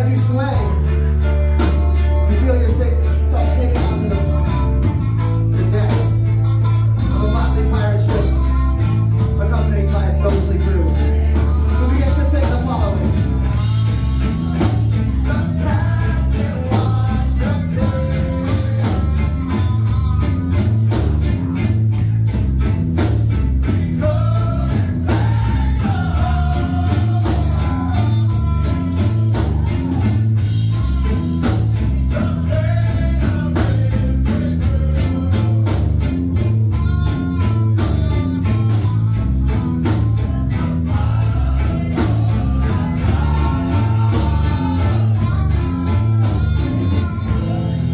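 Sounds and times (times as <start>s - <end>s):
drums: 0.0s - 47.9s
repeating bass line: 0.0s - 47.9s
person singing: 2.1s - 21.3s, 23.6s - 47.9s.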